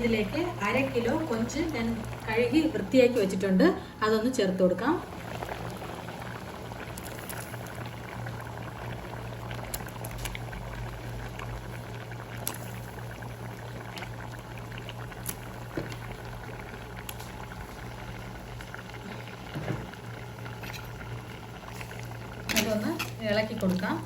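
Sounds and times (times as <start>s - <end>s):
curry bubbling in pot: 0.0s - 24.0s.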